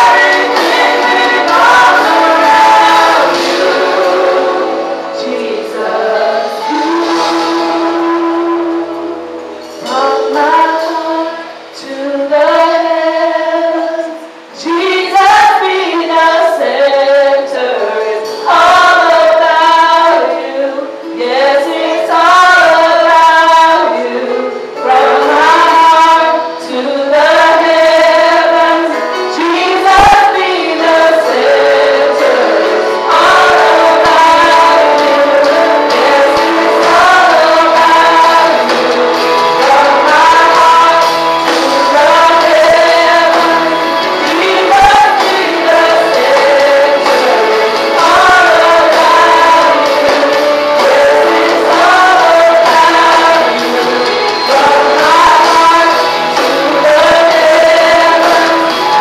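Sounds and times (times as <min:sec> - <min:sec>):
held backing music: 0:00.0 - 0:59.0
women singing worship song: 0:00.0 - 0:59.0.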